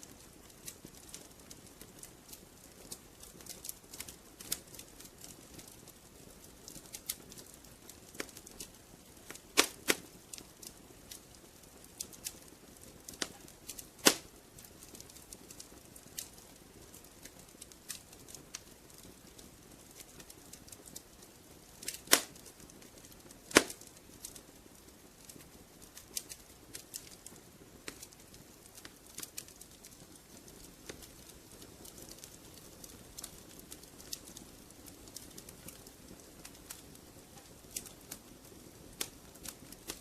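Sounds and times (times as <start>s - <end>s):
fire popping: 0.0s - 40.0s
soft low hiss: 0.0s - 40.0s
wood fire crackling: 0.0s - 40.0s.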